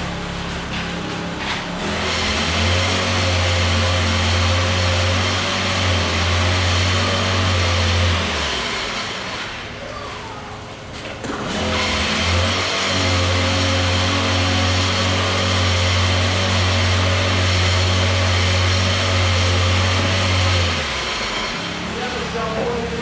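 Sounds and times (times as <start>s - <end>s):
vibratory screed engine hum: 0.0s - 9.8s, 11.3s - 23.0s.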